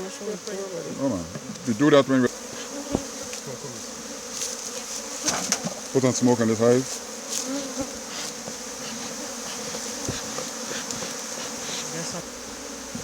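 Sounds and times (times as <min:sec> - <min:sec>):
honeybees buzzing: 0:01.8 - 0:13.0.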